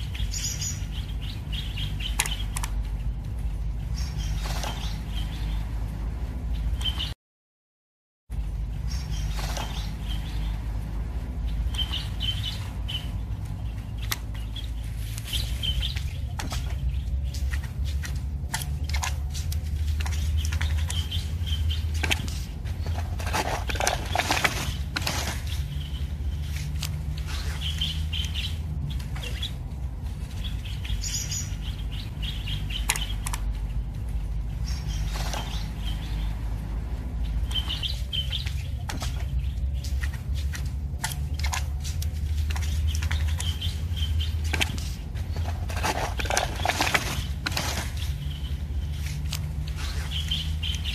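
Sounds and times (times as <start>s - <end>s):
birds chirping: 0.0s - 7.2s, 8.3s - 50.9s
low steady rumble: 0.0s - 7.2s, 8.3s - 50.9s.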